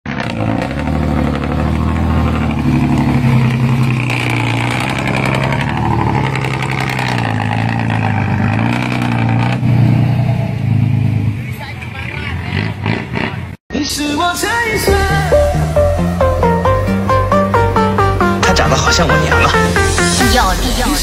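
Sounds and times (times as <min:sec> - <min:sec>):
truck diesel engine under load: 0:00.0 - 0:13.6, 0:14.7 - 0:21.0.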